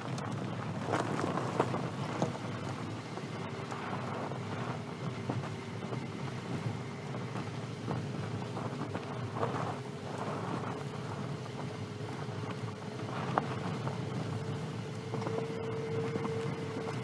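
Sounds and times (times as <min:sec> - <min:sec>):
car tyres rolling over gravel: 0:00.0 - 0:17.0.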